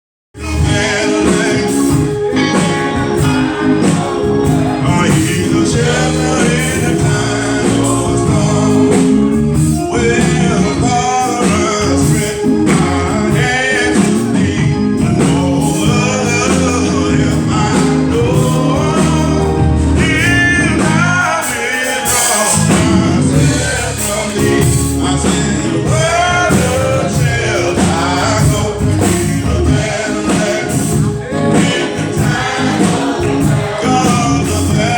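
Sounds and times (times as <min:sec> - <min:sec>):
steady bass: 0:00.4 - 0:21.4, 0:22.4 - 0:34.9
gospel singing with live band: 0:00.4 - 0:34.9.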